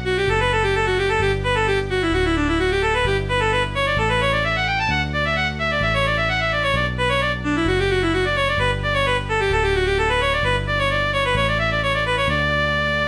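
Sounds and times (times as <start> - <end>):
low held synth chords: 0.0 - 13.0.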